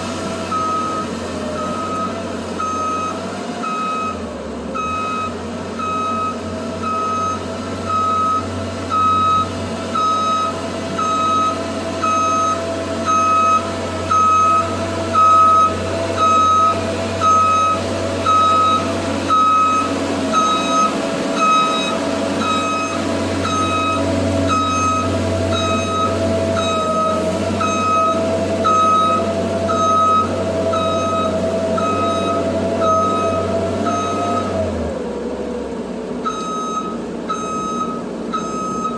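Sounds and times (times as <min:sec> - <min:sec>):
truck engine humming: 0:00.0 - 0:38.9
backup alarm beeping: 0:04.8 - 0:34.5, 0:36.3 - 0:38.9.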